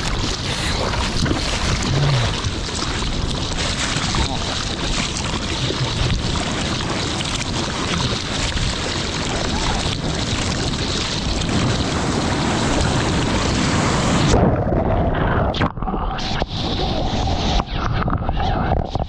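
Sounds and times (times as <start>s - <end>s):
seawater splashing and rushing: 0.0s - 18.8s.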